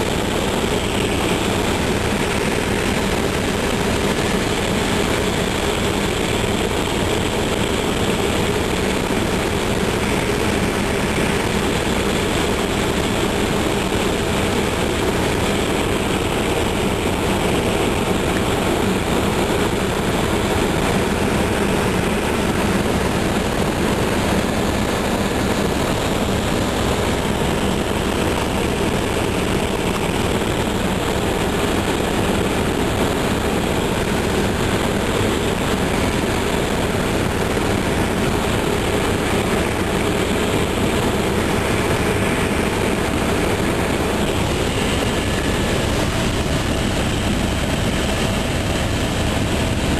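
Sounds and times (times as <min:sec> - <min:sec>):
helicopter engine and rotor noise: 0:00.0 - 0:49.9.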